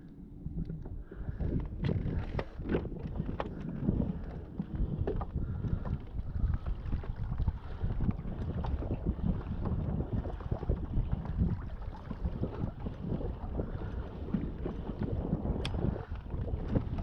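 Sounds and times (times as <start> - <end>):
kayak moving through water: 0.0 - 17.0
wind buffeting microphone: 0.0 - 17.0.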